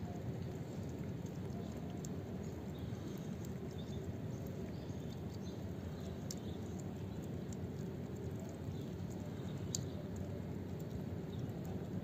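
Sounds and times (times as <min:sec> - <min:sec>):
cat lapping water: 0:00.0 - 0:12.0
low background noise: 0:00.0 - 0:12.0.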